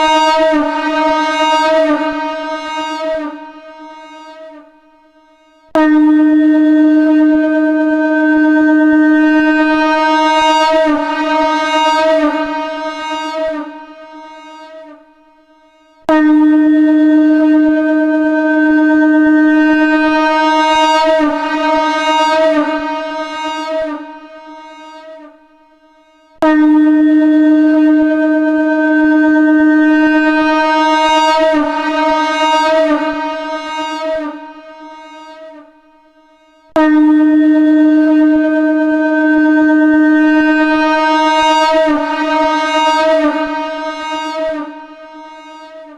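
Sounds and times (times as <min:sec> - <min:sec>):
conch shell blown: 0:00.0 - 0:45.9.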